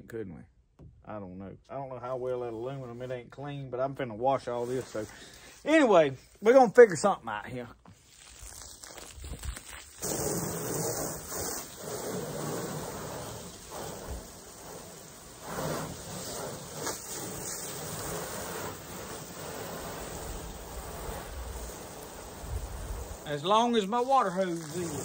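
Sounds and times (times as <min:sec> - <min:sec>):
garden hose spraying water: 0:04.4 - 0:25.0.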